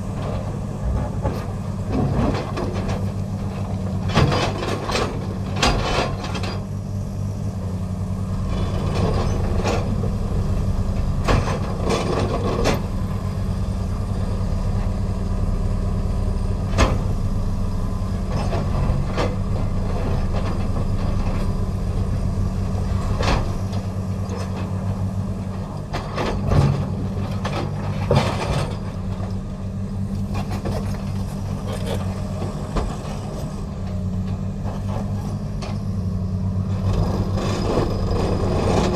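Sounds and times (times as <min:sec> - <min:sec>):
excavator drone: 0:00.0 - 0:38.9.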